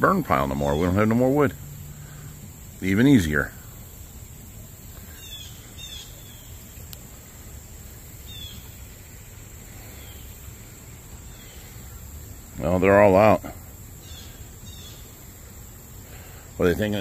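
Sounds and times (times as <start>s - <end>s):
insects droning: 0.0s - 17.0s
falling bird chirps: 2.0s - 12.7s, 13.8s - 16.8s.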